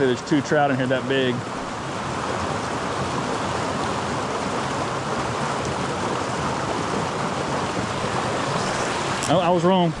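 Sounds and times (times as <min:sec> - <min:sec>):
stream rushing over riffle: 0:00.0 - 0:10.0.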